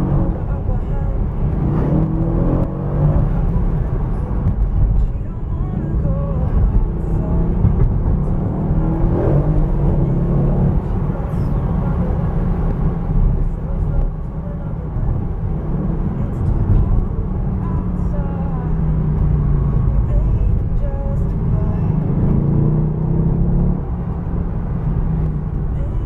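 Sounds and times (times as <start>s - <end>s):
car engine droning: 0.0s - 26.0s
road noise: 0.0s - 26.0s.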